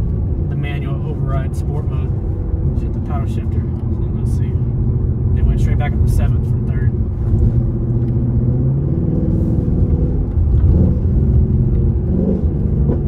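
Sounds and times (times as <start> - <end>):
car engine heard from cabin: 0.0 - 13.0.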